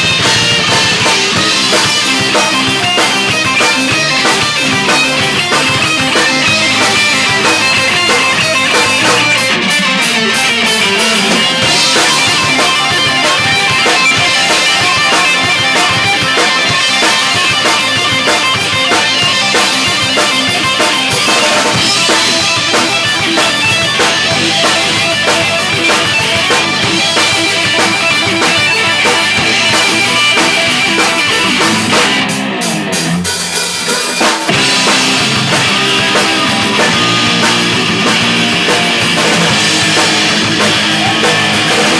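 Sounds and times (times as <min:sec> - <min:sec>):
bass guitar: 0:00.0 - 0:41.9
drum kit: 0:00.0 - 0:41.9
electric guitars: 0:00.0 - 0:41.9.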